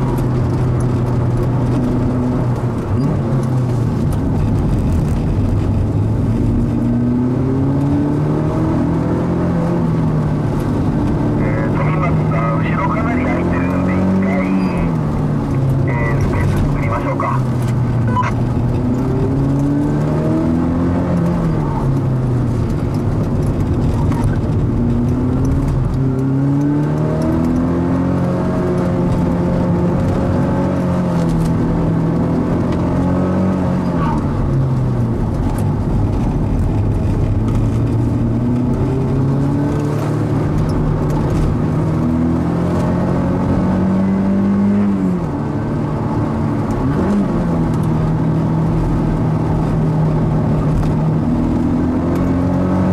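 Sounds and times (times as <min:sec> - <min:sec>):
car engine revving hard: 0:05.4 - 0:52.9.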